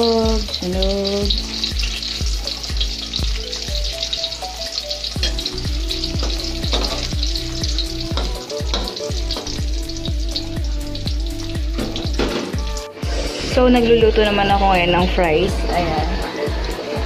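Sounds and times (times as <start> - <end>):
background music with beat: 0.0 - 17.0
spring rolls sizzling in oil: 0.0 - 17.0.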